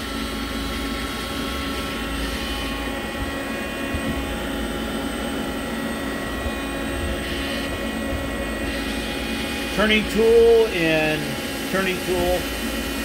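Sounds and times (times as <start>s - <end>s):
lathe machine hum: 0.0s - 13.0s
whining tones: 0.0s - 13.0s.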